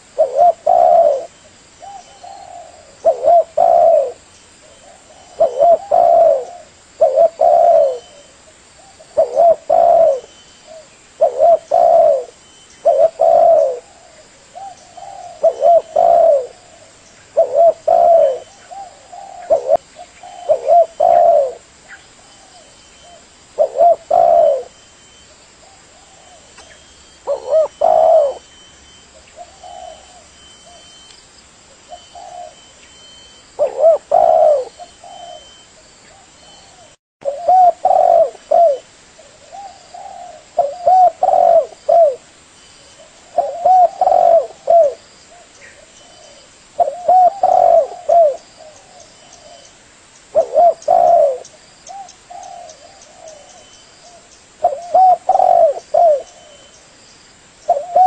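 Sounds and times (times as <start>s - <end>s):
dove cooing: 0.0s - 31.0s, 31.8s - 42.3s, 42.9s - 49.7s, 50.3s - 56.8s, 57.6s - 58.0s.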